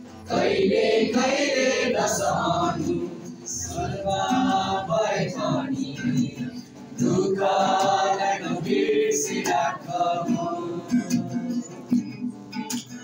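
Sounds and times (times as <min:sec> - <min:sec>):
strummed acoustic guitar: 0:00.0 - 0:13.0
boys singing in unison: 0:00.2 - 0:12.2.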